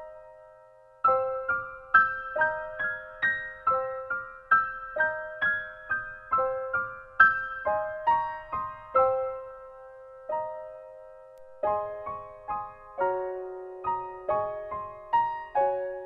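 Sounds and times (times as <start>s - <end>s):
gentle solo piano melody: 0.0s - 16.0s.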